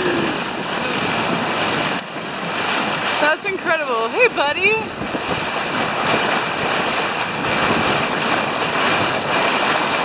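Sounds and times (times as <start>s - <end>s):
water rushing past boat: 0.0s - 10.0s
wind: 0.0s - 10.0s.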